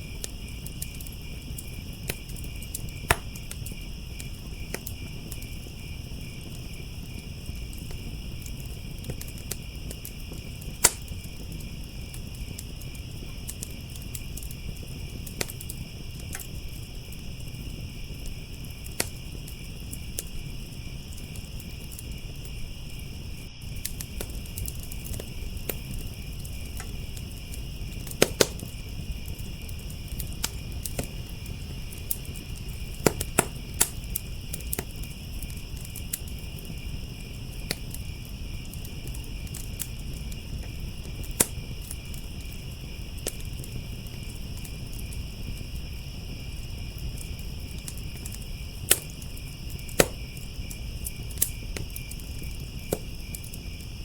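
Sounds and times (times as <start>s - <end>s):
burning wood popping and crackling: 0.0s - 54.0s
crickets chirping: 0.0s - 54.0s
wood fire rushing: 0.0s - 54.0s.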